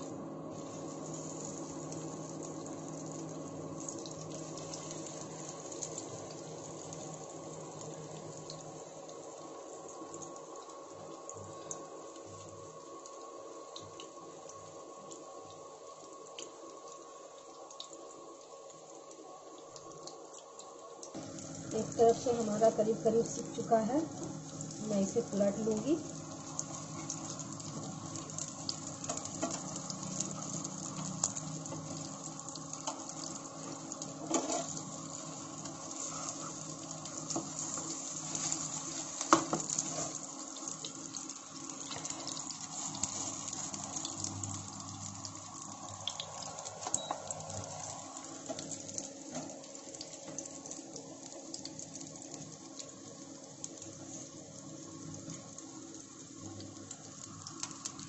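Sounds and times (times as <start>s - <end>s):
food sizzling in oil: 0.0s - 20.6s, 21.2s - 58.0s.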